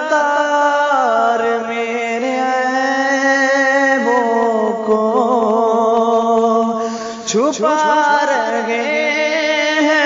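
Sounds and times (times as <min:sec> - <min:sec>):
man singing a long note: 0:00.0 - 0:10.0.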